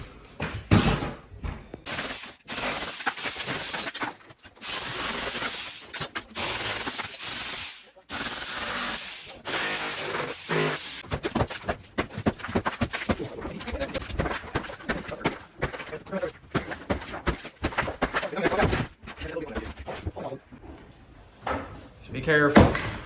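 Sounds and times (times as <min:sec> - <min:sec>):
rubble rattling and scraping: 0:00.0 - 0:20.6.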